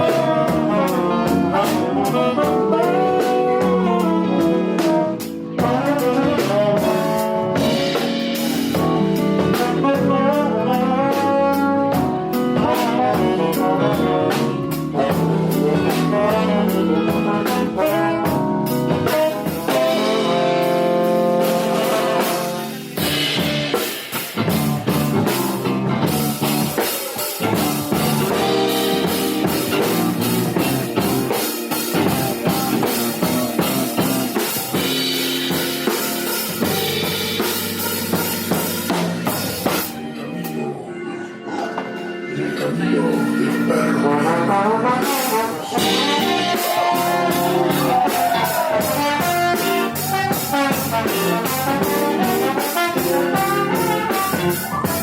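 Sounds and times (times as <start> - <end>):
drums and cymbals: 0.0 - 40.0, 45.0 - 55.0
jazz band playing: 0.0 - 55.0
saxophone and brass melody: 0.0 - 55.0.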